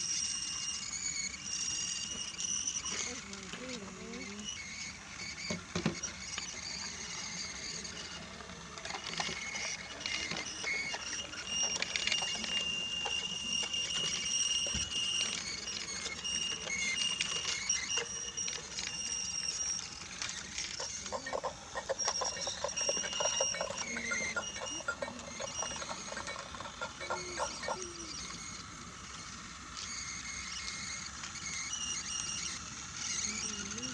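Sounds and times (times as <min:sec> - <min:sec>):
toy train motor whine: 0:00.0 - 0:33.9
wheels clicking on wooden rails: 0:00.0 - 0:33.9.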